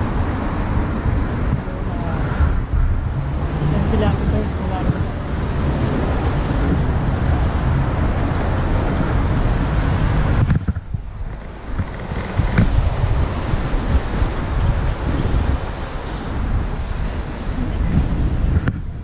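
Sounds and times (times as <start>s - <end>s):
street traffic: 0.0s - 19.0s
wind buffeting microphone: 0.0s - 19.0s.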